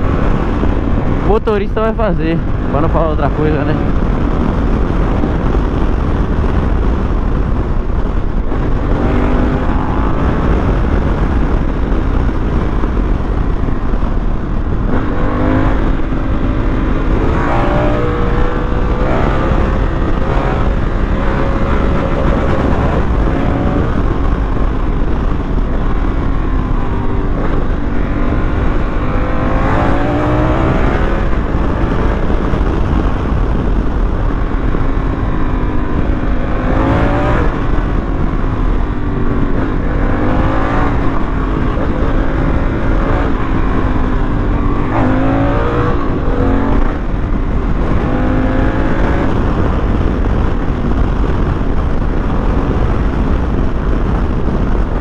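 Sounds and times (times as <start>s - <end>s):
motorcycle engine revving: 0.0s - 55.0s
wind on microphone: 0.0s - 55.0s.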